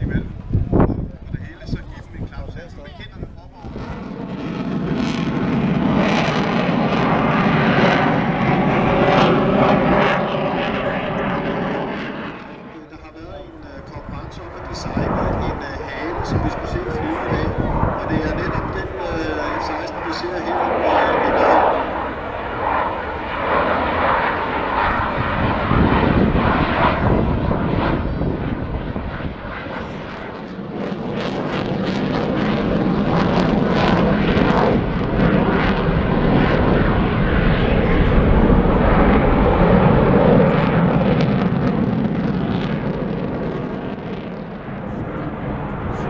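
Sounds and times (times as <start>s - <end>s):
jet engine flyby: 0.0s - 46.0s.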